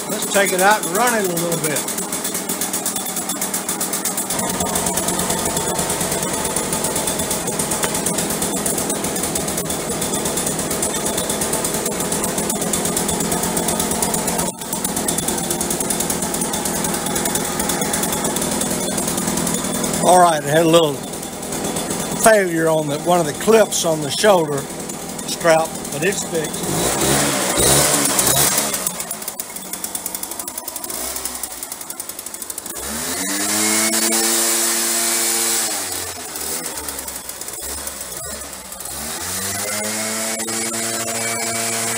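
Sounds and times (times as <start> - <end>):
leaf blower engine running: 0.0 - 41.9.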